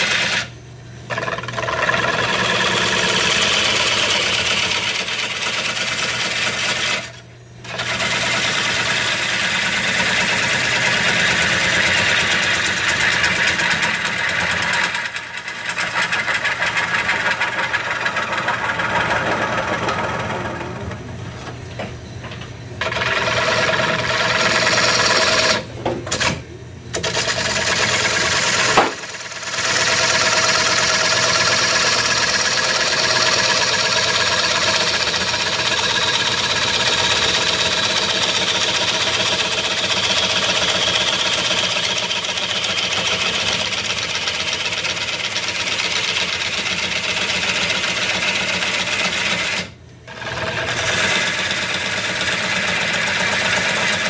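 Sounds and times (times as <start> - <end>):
gouge cutting wood on lathe: 0.0 - 0.5, 1.1 - 21.1, 22.8 - 25.7, 26.9 - 54.0
lathe motor hum: 0.0 - 25.7, 26.9 - 54.0.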